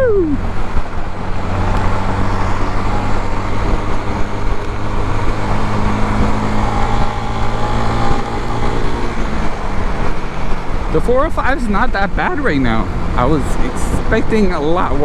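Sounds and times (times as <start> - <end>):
motorcycle engine running: 0.0 - 14.9
road and traffic noise: 0.0 - 15.0.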